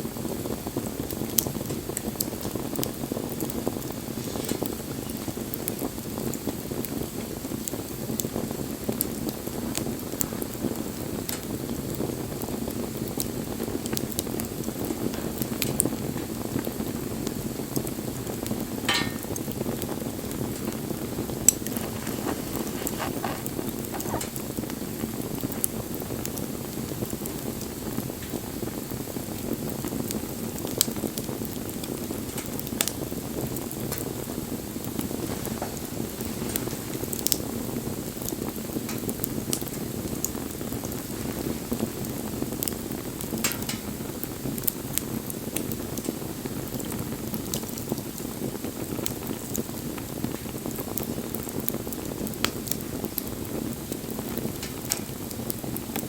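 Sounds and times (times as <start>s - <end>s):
wood fire crackling: 0.0s - 56.0s
sharp pops from burning wood: 0.1s - 56.0s.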